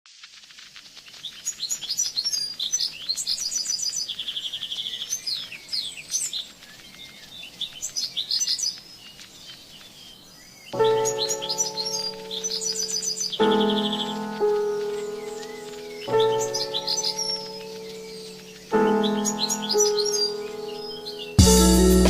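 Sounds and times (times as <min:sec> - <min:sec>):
songbird singing: 0:01.3 - 0:22.0.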